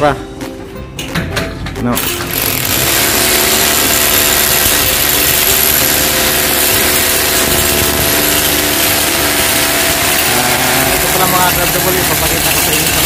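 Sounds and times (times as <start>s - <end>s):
power drill boring into masonry: 2.0s - 13.0s.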